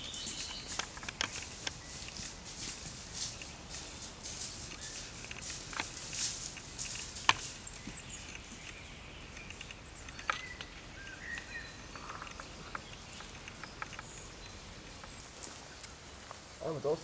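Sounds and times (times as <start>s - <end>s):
horse stepping over dry leaves: 0.0s - 16.0s
bird chirping: 0.0s - 17.0s.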